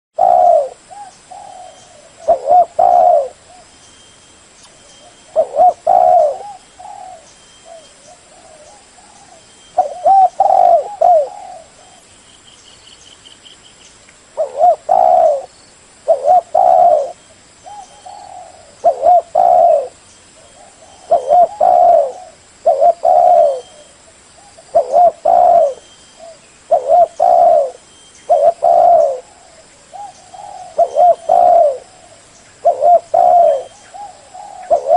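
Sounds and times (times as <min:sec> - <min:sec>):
dove cooing: 0:00.2 - 0:03.7, 0:05.0 - 0:12.1, 0:14.4 - 0:34.9.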